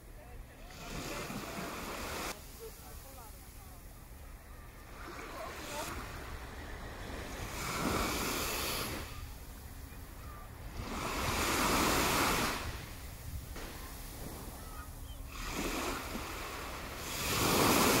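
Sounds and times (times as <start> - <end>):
waves washing onto shore: 0.0 - 18.0.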